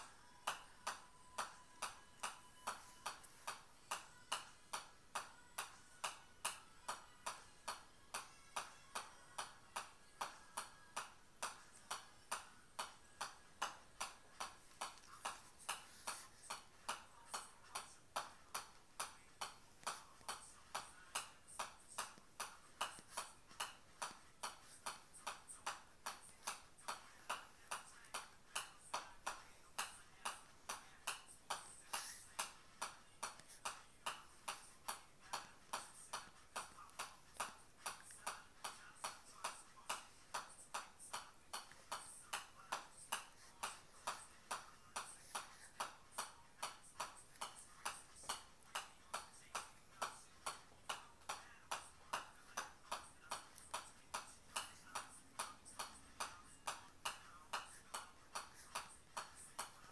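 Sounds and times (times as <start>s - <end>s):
golf ball tapping on clubface: 0.5s - 59.9s.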